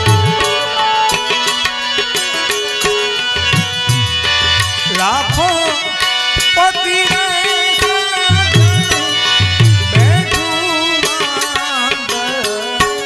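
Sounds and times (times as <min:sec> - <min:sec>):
folk wedding song music: 0:00.0 - 0:13.0.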